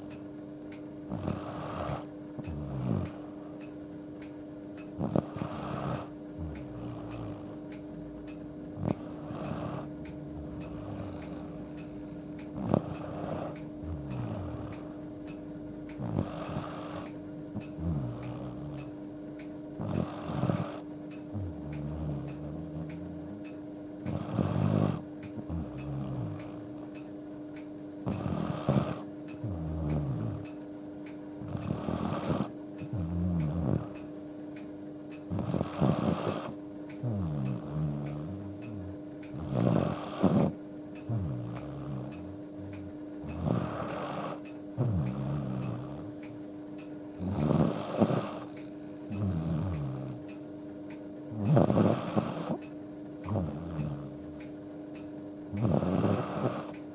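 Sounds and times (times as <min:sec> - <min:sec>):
steady low hum: 0:00.0 - 0:56.9
dog snoring: 0:01.0 - 0:03.5, 0:05.0 - 0:19.1, 0:19.8 - 0:30.6, 0:31.4 - 0:34.0, 0:35.2 - 0:46.6, 0:47.2 - 0:56.9.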